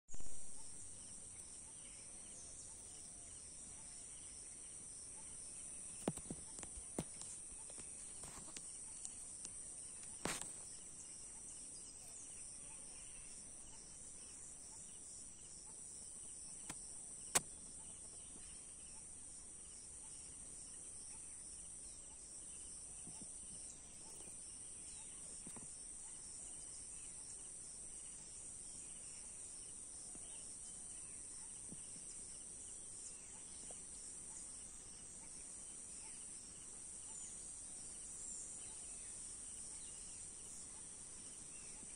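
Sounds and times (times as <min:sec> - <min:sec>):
high-pitched insect chorus: 0:00.1 - 0:41.9.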